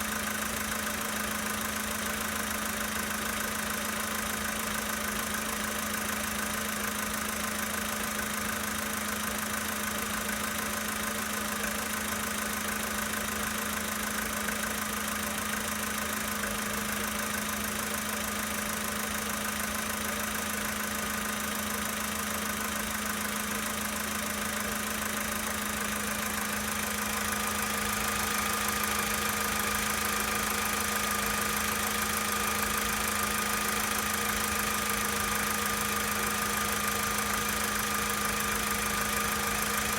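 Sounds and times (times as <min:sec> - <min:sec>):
car engine idling: 0:00.0 - 0:39.9
engine knocking: 0:00.0 - 0:39.9.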